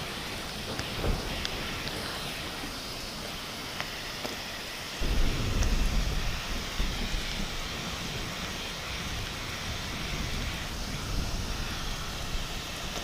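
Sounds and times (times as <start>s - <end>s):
thunder rumbling: 0.0s - 2.7s, 5.0s - 12.8s
heavy rain falling: 0.0s - 13.0s.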